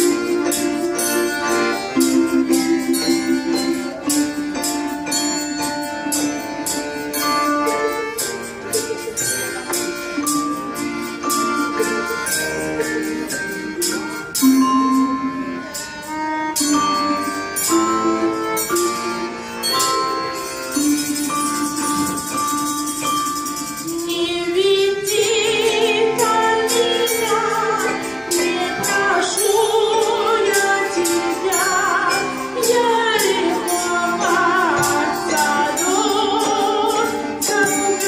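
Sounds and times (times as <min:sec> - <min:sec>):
folk ensemble melody: 0:00.0 - 0:38.0
percussion beat: 0:00.0 - 0:38.0.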